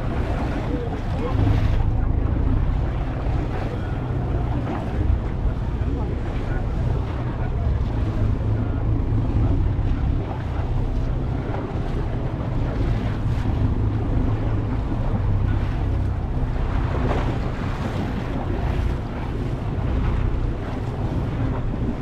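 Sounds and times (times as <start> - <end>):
motorboat engine humming: 0.0 - 22.0
rushing sea water: 0.0 - 22.0
wind buffeting microphone: 0.0 - 22.0.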